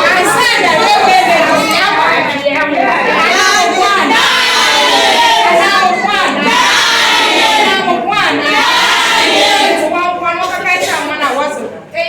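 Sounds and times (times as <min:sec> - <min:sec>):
crowd calling out and talking: 0:00.0 - 0:12.0.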